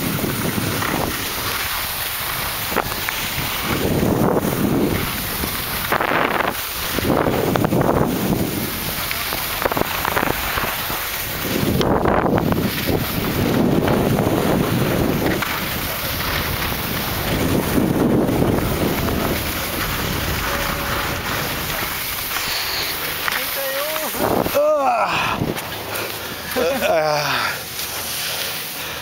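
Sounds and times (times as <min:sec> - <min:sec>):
wind buffeting microphone: 0:00.0 - 0:23.3, 0:23.9 - 0:26.5
skis sliding over snow: 0:00.0 - 0:29.0.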